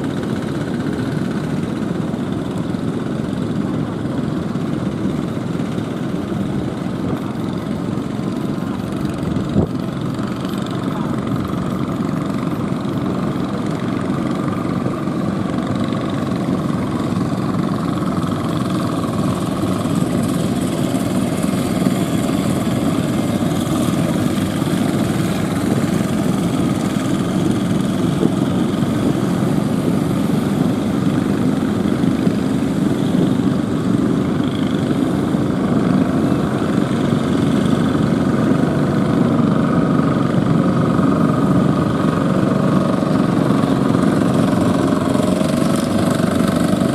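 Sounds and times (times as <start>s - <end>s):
boat engines droning: 0.0s - 46.9s.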